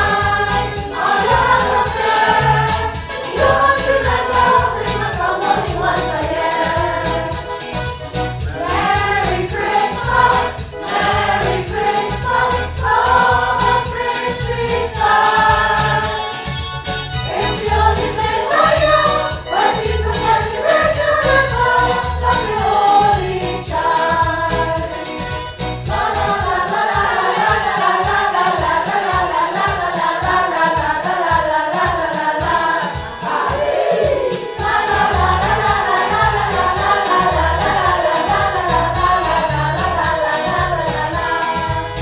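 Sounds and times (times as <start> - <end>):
choir singing gospel song: 0.0 - 42.0
steady beat accompaniment: 0.0 - 42.0.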